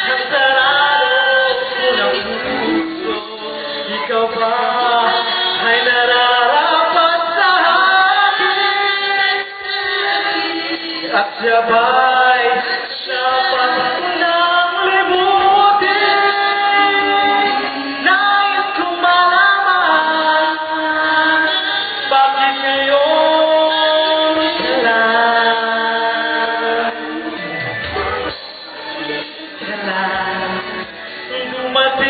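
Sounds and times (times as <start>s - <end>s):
man and woman singing duet: 0.0s - 32.0s.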